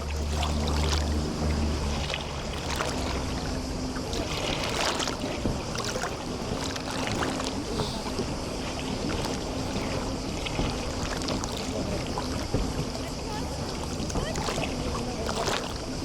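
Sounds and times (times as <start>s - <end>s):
distant motorboat engine hum: 0.0s - 16.0s
small waves lapping at shore: 0.0s - 16.0s
water splashes and trickles: 0.0s - 16.0s.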